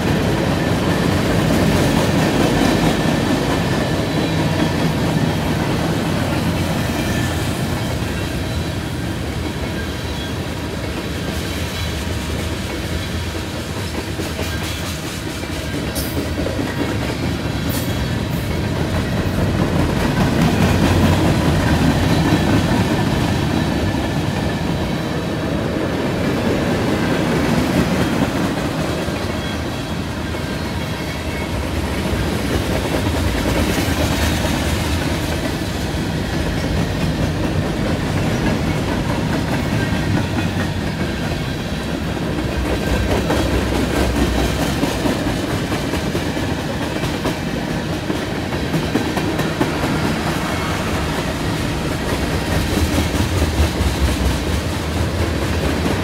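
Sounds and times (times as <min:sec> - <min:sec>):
wheels clickety-clack: 0:00.0 - 0:08.4, 0:09.1 - 0:25.0, 0:26.0 - 0:56.0
steel wheels rumbling on rail: 0:00.0 - 0:56.0.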